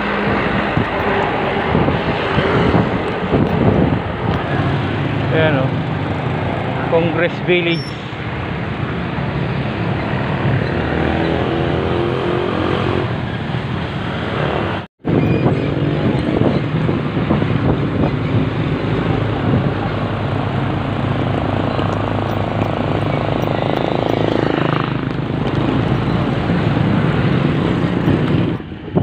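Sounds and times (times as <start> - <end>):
motorcycle engines running: 0.0 - 29.0
wind on microphone: 0.0 - 29.0.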